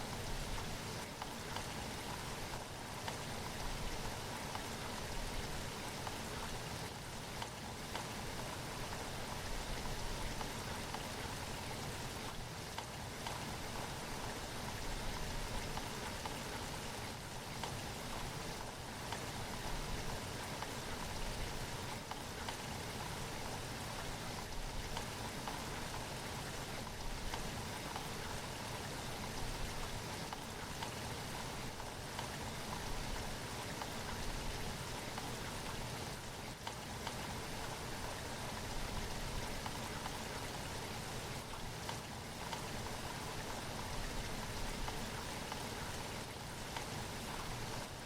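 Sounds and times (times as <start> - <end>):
rain hissing: 8.2 - 48.0.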